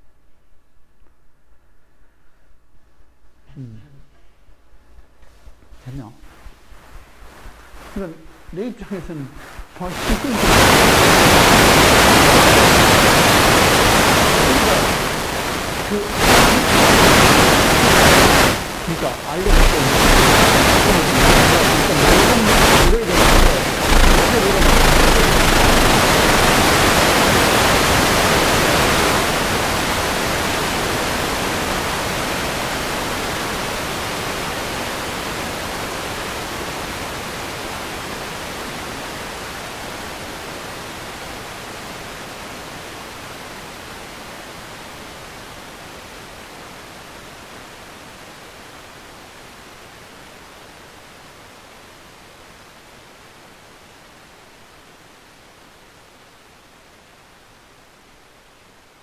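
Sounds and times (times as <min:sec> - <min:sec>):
loud static hiss: 0:00.0 - 0:59.0.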